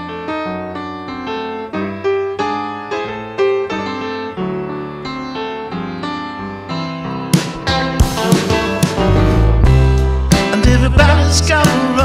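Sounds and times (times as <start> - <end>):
calm solo piano melody: 0.0 - 12.0.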